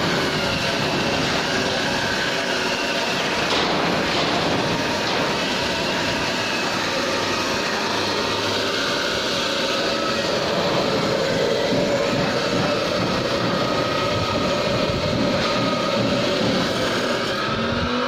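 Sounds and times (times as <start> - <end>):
angle grinder cutting steel: 0.0 - 18.0.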